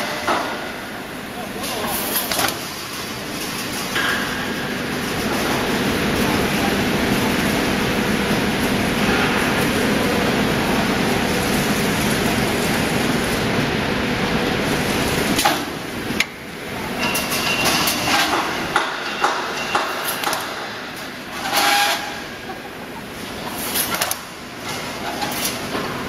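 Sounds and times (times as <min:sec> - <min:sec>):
mesh welding machine running: 0:00.0 - 0:26.0.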